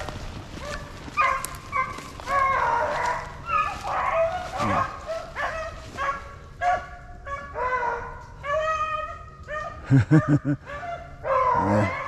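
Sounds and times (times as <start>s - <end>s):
beagles baying and yipping: 0.0s - 12.0s.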